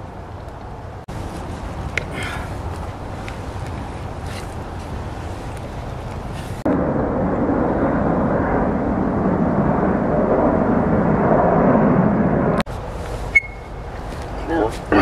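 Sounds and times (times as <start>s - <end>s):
jet airliner rumbling overhead: 0.0s - 15.0s.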